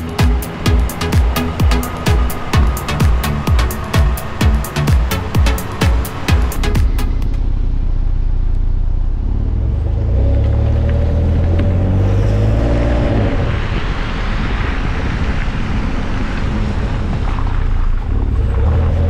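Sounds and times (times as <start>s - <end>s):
truck driving past: 0.0s - 17.1s
tyre and road noise: 0.0s - 19.0s.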